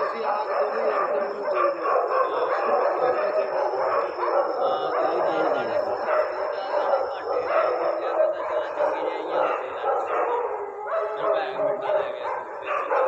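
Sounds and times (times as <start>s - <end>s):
dogs howling and yelping: 0.0s - 13.0s.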